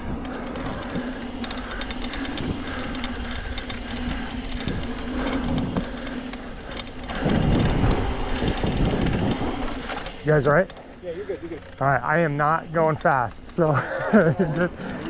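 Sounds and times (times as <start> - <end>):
bike rattling: 0.0 - 15.0
bike tyres on dirt: 0.0 - 15.0
steady hum: 0.0 - 15.0.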